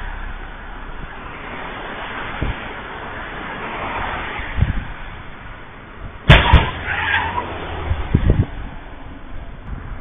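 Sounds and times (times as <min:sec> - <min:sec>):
car passing close: 0:00.0 - 0:10.0
road traffic rushing: 0:00.0 - 0:10.0.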